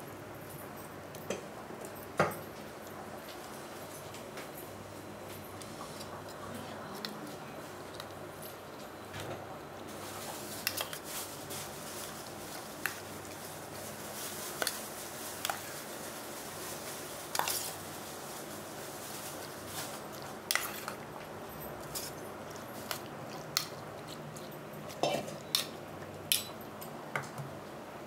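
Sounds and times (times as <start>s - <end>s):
soft squishing of food being stirred: 0.1s - 28.0s.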